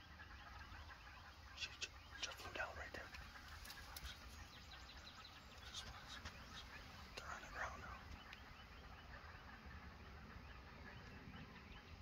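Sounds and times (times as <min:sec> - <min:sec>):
distant turkey gobble: 0:00.0 - 0:12.0
faint bird chirps: 0:00.0 - 0:12.0.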